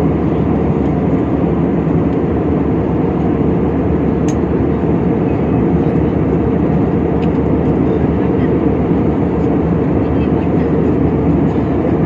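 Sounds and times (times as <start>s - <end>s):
airliner engine drone: 0.0s - 12.0s.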